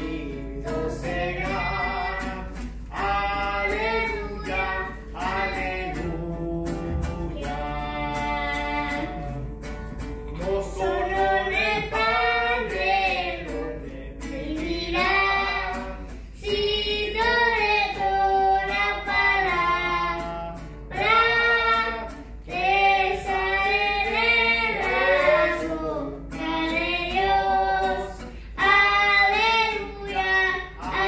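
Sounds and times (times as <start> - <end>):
girl singing into a microphone: 0.0 - 6.0, 6.8 - 9.4, 10.4 - 31.0
acoustic guitar strummed: 0.0 - 31.0.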